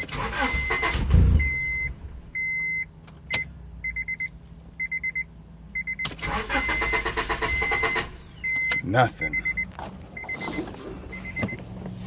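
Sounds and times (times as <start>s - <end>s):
car electronic beeping: 0.0s - 12.0s.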